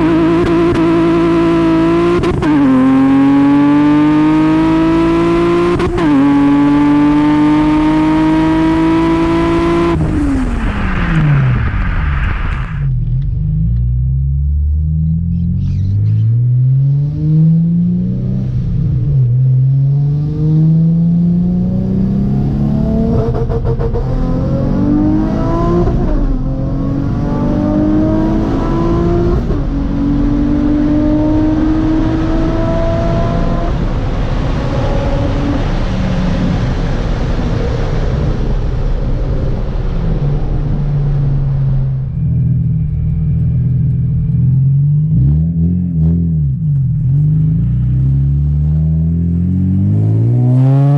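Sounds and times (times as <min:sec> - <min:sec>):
car engine accelerating: 0:00.0 - 0:50.9.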